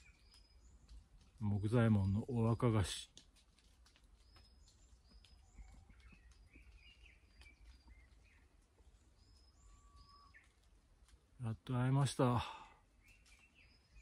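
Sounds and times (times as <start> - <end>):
faint forest bird calls: 0.0 - 14.0.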